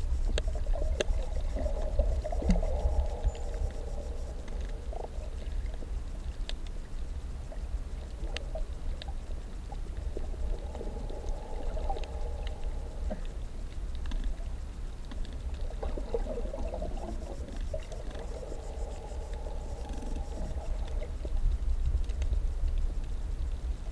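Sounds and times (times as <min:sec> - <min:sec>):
droning hum: 0:00.0 - 0:23.9
faint clicks: 0:00.0 - 0:23.9
low underwater rumble: 0:00.0 - 0:23.9.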